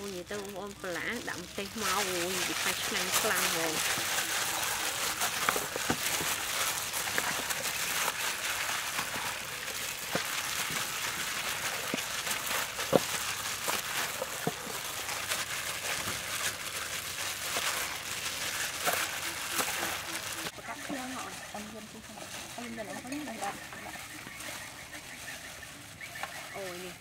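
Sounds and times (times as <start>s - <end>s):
plastic gloves crinkling: 0.0s - 27.0s
raw chicken squelching: 0.0s - 27.0s.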